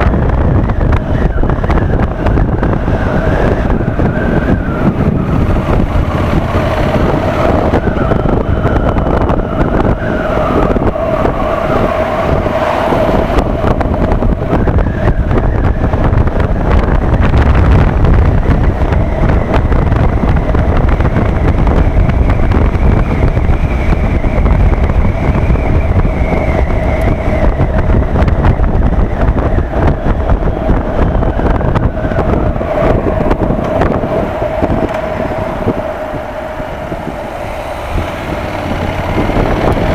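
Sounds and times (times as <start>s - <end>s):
motorcycle engine accelerating: 0.0s - 39.9s
wind rumble on microphone: 0.0s - 39.9s.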